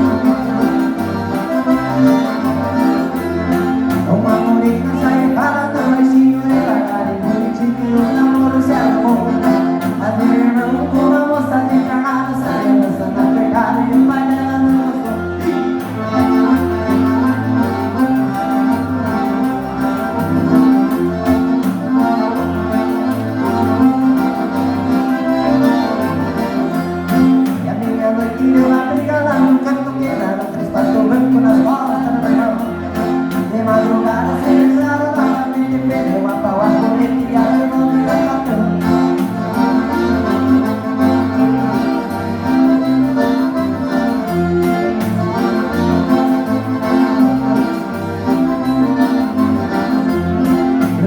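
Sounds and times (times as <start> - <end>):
accordion chords: 0.0 - 51.0
pulsing bass line: 0.0 - 51.0.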